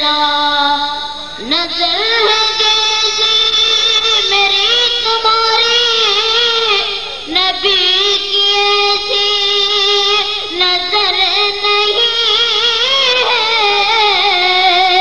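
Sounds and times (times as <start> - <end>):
boy singing devotional song: 0.0 - 15.0.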